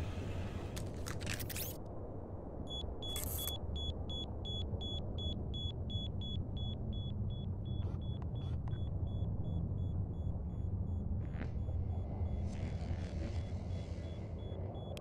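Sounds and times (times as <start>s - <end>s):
steady low rumble: 1.9s - 15.0s.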